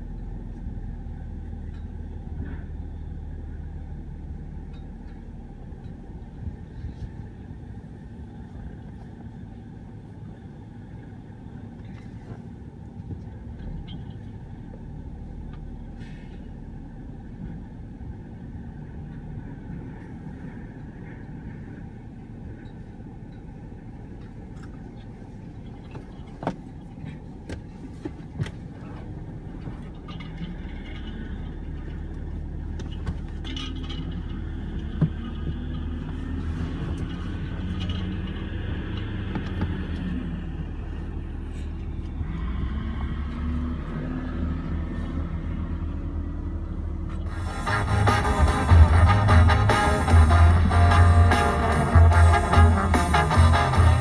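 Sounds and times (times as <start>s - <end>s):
refuse truck engine running: 0.0s - 54.0s.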